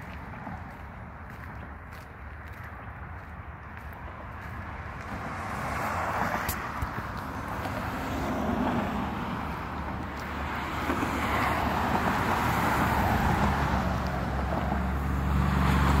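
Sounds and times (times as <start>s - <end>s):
car tyre noise on road: 0.0s - 16.0s.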